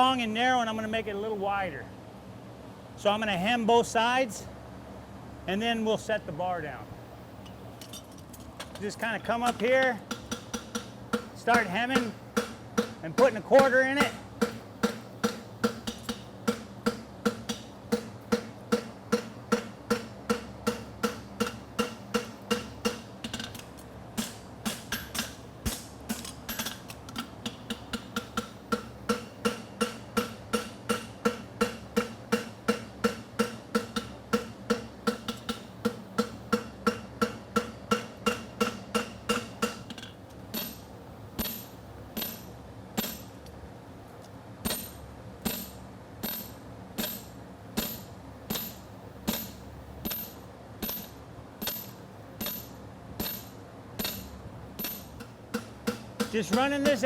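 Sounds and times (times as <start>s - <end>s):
cooling fan hum: 0.0s - 57.0s.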